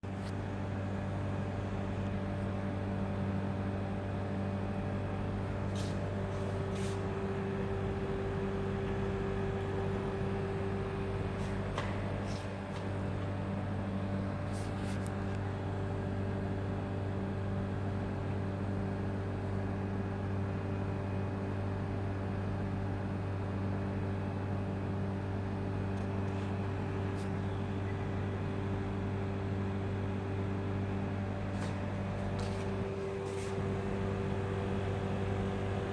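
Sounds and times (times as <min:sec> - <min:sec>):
low machine hum: 0:00.0 - 0:35.9.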